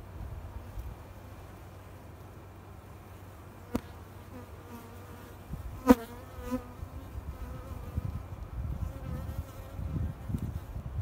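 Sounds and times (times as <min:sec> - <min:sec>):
honeybees buzzing: 0:01.4 - 0:11.0.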